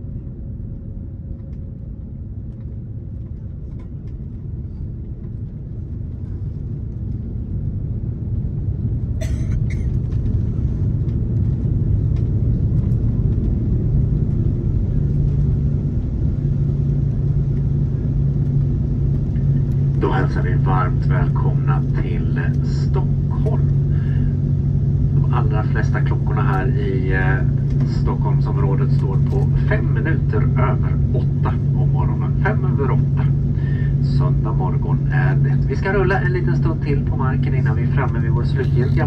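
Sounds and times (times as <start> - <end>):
low engine drone: 0.0 - 39.0
low rumble of aircraft rolling: 0.0 - 39.0.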